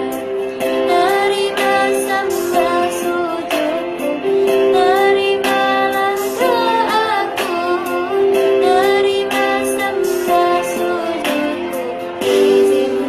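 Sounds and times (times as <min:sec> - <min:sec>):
instrumental backing: 0:00.0 - 0:13.0
child singing: 0:00.9 - 0:13.0.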